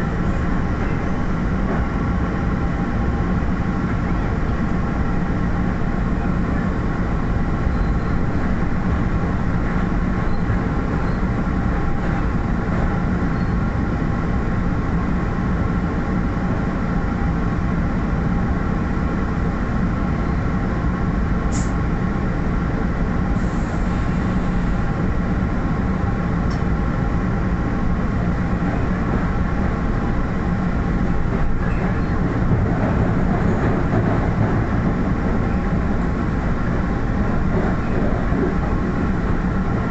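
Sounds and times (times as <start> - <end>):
train rumble from aboard: 0.0 - 39.9.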